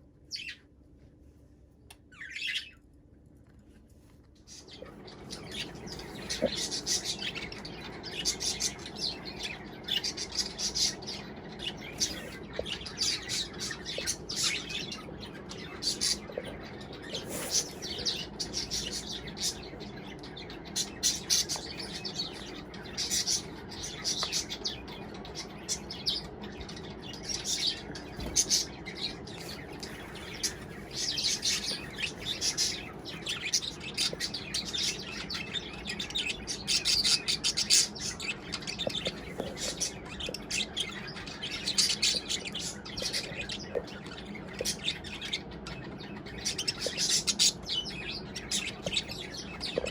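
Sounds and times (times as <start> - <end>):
steady low hum: 0.0 - 49.9
budgerigars chirping: 4.5 - 49.9.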